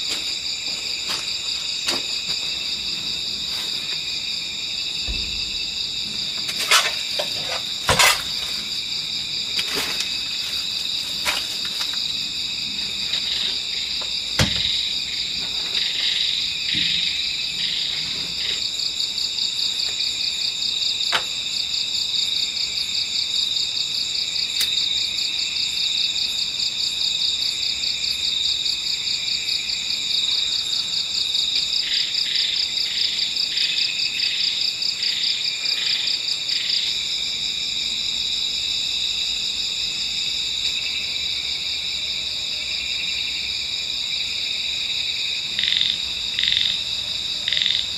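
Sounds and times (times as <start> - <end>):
crickets trilling: 0.0 - 47.9
slower pulsing insect call: 0.0 - 47.9.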